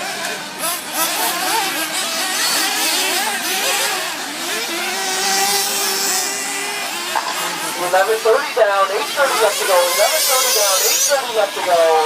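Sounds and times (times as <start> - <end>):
rc buggy motors revving: 0.0 - 12.0.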